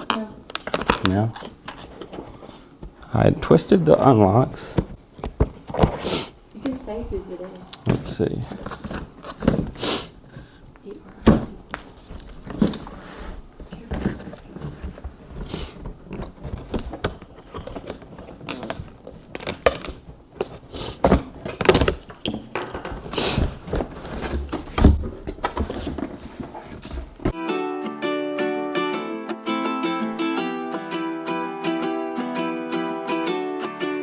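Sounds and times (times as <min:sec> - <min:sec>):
cardboard and packing rustling: 0:00.0 - 0:27.4.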